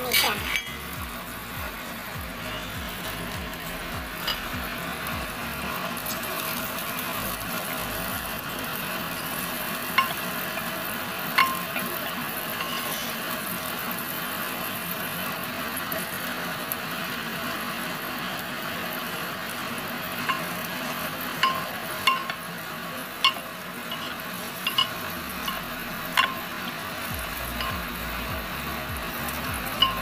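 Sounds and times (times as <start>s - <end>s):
butter sizzling in a pot: 0.0s - 30.0s.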